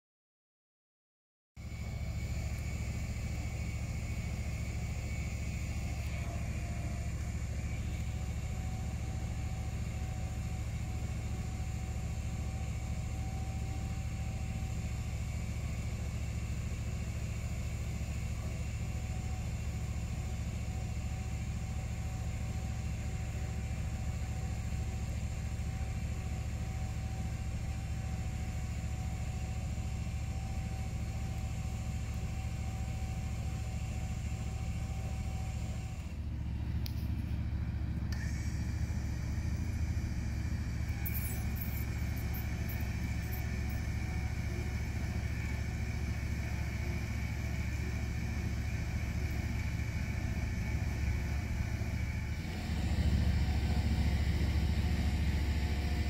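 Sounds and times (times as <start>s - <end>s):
wood chipper rumbling: 1.9s - 14.9s, 20.0s - 56.0s.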